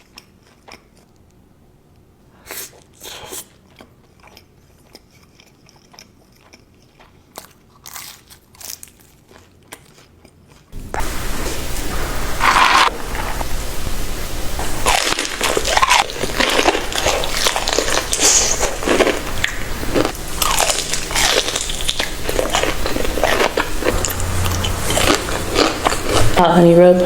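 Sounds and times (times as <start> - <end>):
crunchy chewing of crisp food: 0.0 - 1.4, 2.5 - 11.1, 12.4 - 13.6, 14.6 - 26.4.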